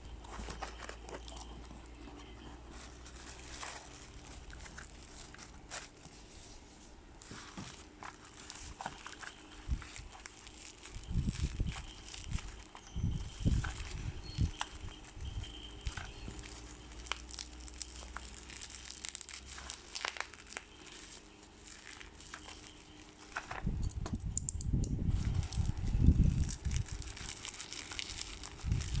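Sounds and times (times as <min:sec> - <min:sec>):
packaging crinkling: 0:00.0 - 0:06.3, 0:07.2 - 0:23.7, 0:25.1 - 0:29.0.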